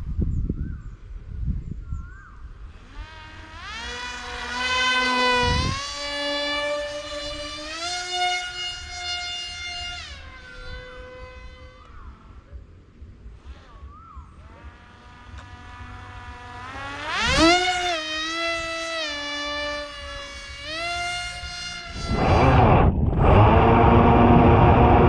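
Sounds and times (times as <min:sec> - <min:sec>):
electric motor and propeller whining: 0:02.6 - 0:25.0.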